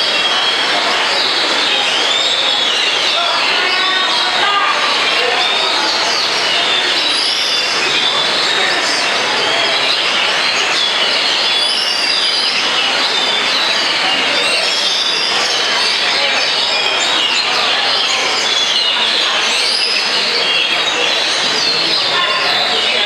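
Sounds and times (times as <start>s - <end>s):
birds singing whistled phrases: 0.0s - 23.0s
dense background noise: 0.0s - 23.0s.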